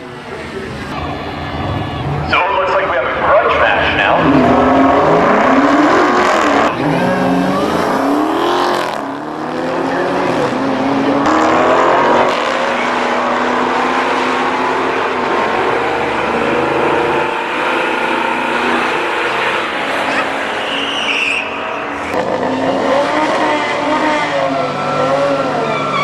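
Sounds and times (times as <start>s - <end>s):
car engine accelerating hard: 3.1s - 26.0s.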